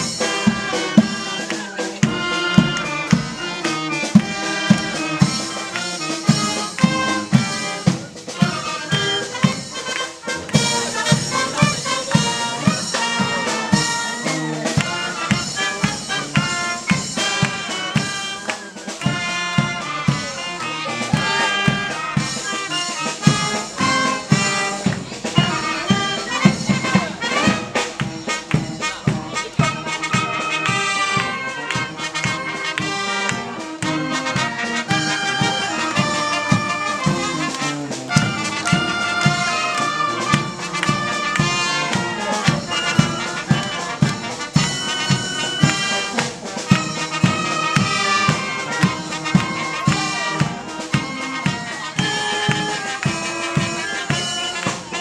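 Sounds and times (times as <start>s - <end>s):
steady drum beat: 0.0s - 55.0s
wind band music: 0.0s - 55.0s.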